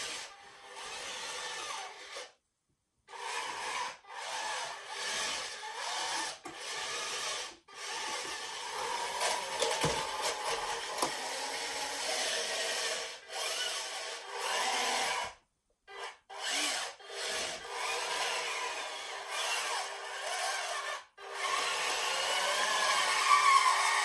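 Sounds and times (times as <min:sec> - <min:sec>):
toy tank motors grinding: 0:00.0 - 0:02.4, 0:03.1 - 0:24.0.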